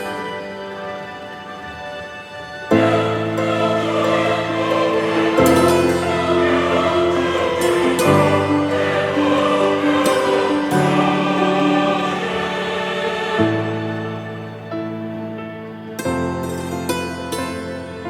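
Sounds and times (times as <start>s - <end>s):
choir-like chords: 0.0s - 18.0s.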